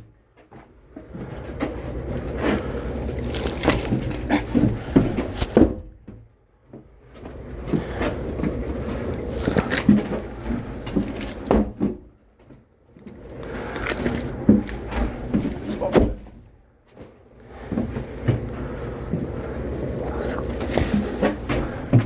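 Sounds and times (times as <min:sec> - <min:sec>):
firewood knocking and clattering: 0:00.0 - 0:17.0, 0:17.6 - 0:22.0.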